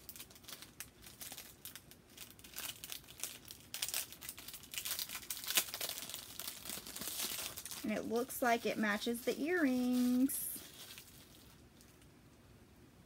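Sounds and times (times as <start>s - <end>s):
plastic packet crinkling: 0.0s - 12.1s.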